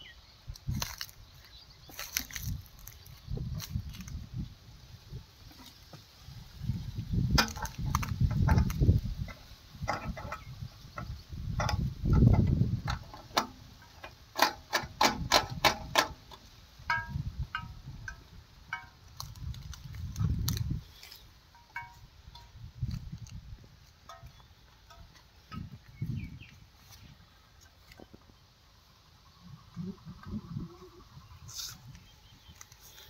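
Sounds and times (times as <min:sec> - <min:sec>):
wind buffeting microphone: 0:00.0 - 0:13.8, 0:14.8 - 0:21.0, 0:21.8 - 0:28.4, 0:29.1 - 0:32.6.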